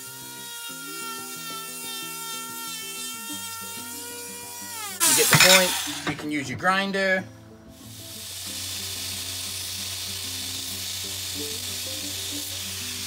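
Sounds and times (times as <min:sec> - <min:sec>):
belt grinder hissing and humming: 0:00.0 - 0:06.6, 0:07.7 - 0:13.0.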